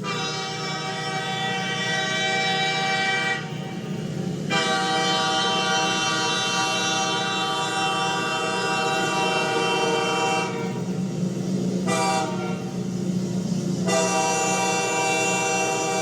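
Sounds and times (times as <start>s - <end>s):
locomotive air horn: 0.0s - 3.8s, 4.5s - 10.8s, 11.8s - 12.7s, 13.9s - 16.0s
train rumbling: 0.0s - 16.0s.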